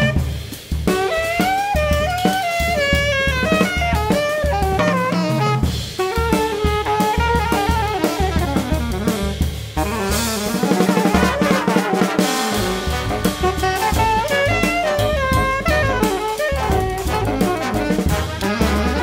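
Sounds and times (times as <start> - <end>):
double bass: 0.0 - 11.6, 12.5 - 19.0
drum kit: 0.0 - 19.0
saxophone section: 0.0 - 19.0.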